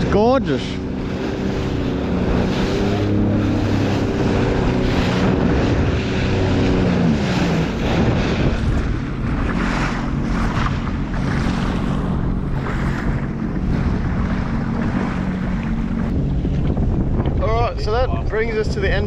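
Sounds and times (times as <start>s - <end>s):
jet ski engine running: 0.0s - 19.0s
water rushing: 0.0s - 19.0s
wind on microphone: 0.0s - 19.0s.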